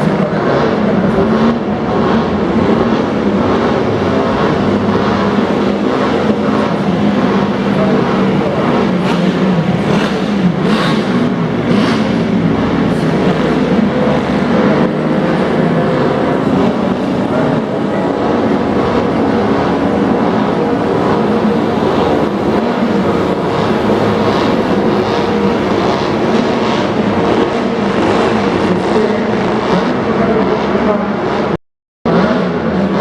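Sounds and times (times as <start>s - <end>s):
car and motorcycle engines running: 0.0s - 33.0s.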